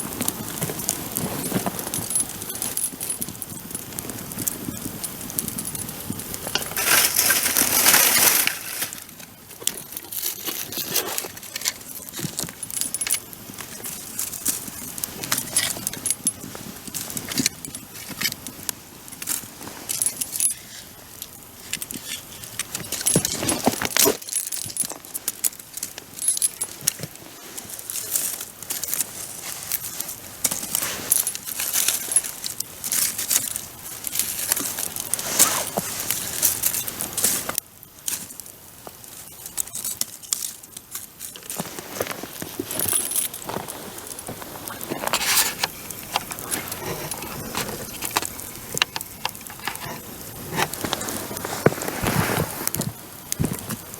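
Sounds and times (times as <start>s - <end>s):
bonfire crackling: 0.0s - 53.9s
fire snapping: 0.0s - 53.9s
low fire hiss: 0.0s - 53.9s.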